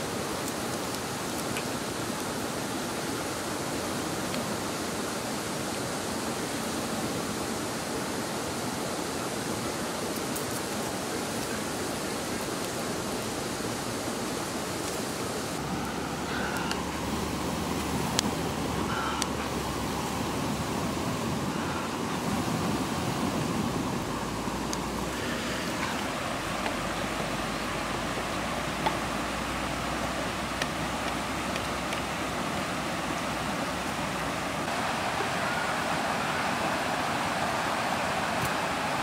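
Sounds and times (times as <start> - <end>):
rushing outdoor noise: 0.0 - 39.0.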